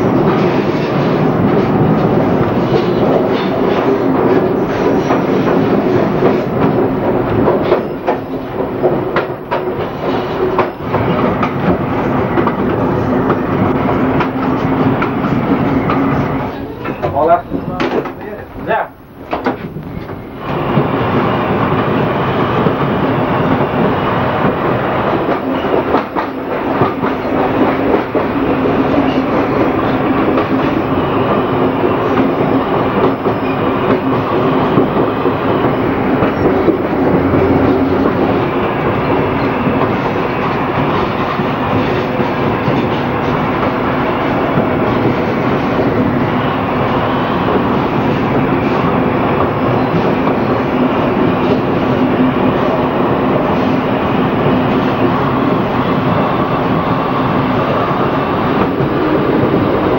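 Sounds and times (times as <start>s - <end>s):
electric railcar hum: 0.0s - 59.9s
wheels rumbling on track: 0.0s - 59.9s.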